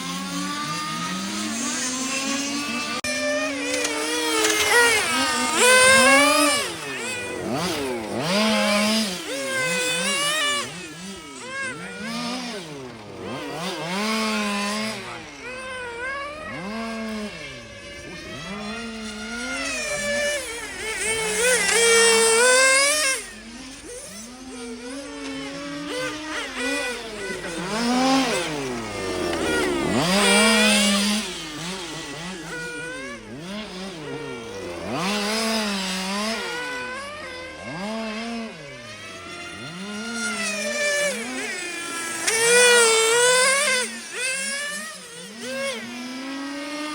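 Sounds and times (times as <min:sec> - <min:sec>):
small two-stroke engines revving: 0:00.0 - 0:46.9.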